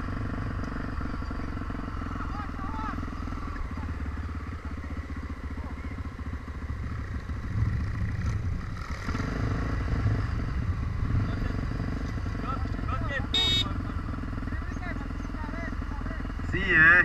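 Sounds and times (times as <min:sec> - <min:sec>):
motorcycle engine idling: 0:00.0 - 0:09.0, 0:10.3 - 0:17.0.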